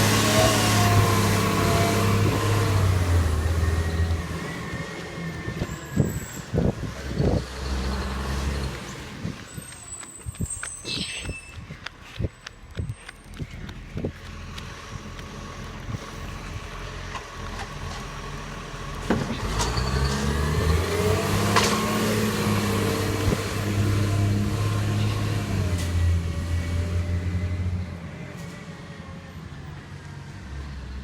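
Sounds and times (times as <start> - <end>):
vehicle engine humming: 0.0 - 31.0.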